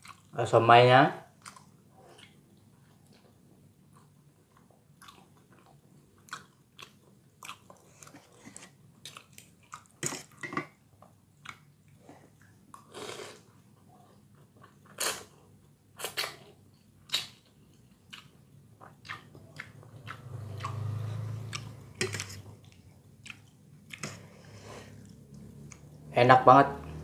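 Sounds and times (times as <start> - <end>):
person chewing with wet smacks: 0.0 - 0.4, 1.4 - 10.4, 11.0 - 12.9, 13.5 - 26.1.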